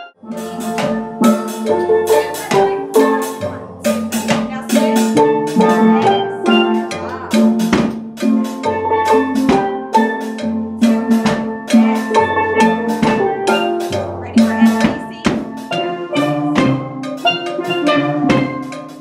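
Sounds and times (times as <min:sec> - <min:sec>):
steel pan ensemble playing: 0:00.0 - 0:19.0.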